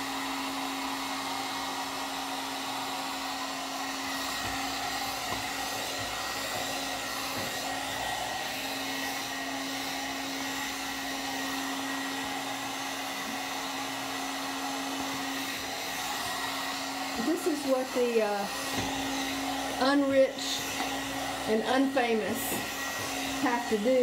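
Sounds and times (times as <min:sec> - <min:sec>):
hot-air dryer brush blowing: 0:00.0 - 0:24.0.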